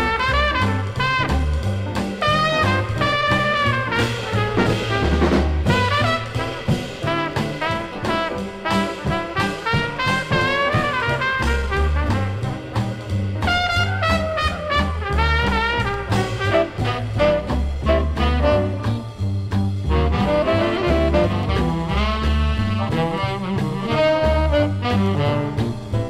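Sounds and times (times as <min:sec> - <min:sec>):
swing jazz from a record: 0:00.0 - 0:26.0.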